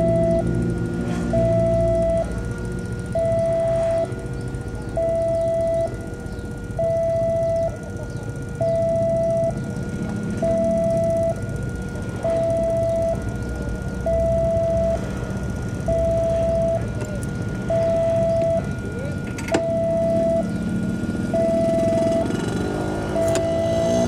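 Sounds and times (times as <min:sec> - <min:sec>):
level crossing two-tone alarm: 0:00.0 - 0:24.0.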